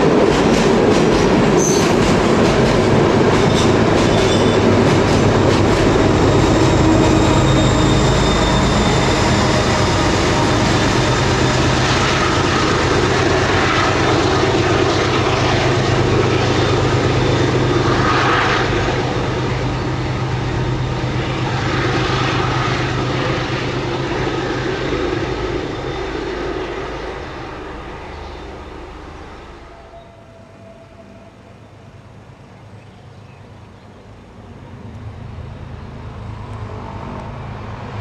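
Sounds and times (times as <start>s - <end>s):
diesel locomotive engine droning: 0.0s - 38.0s
rumble of train wagons: 0.0s - 38.0s.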